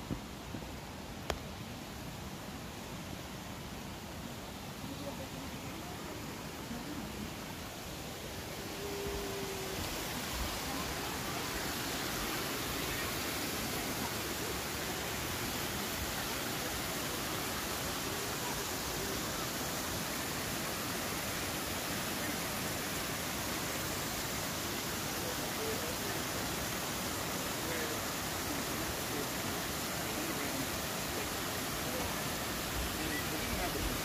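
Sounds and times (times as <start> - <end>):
running water: 0.0 - 34.0.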